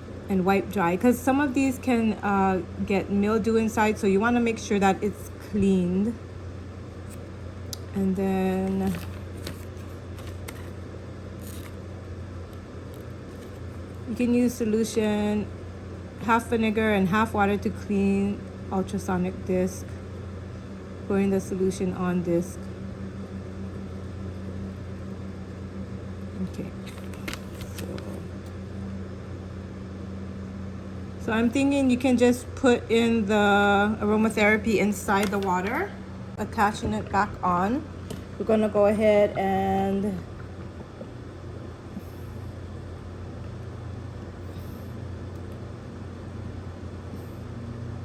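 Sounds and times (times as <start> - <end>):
low background hum: 0.0 - 48.0.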